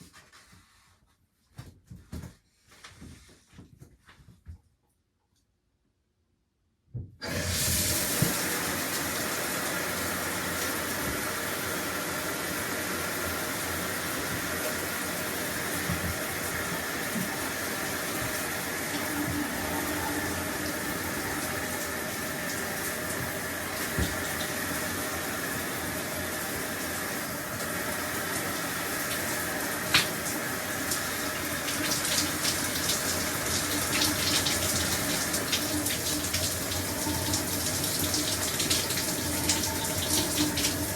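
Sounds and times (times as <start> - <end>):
shower water spraying: 7.2 - 40.9.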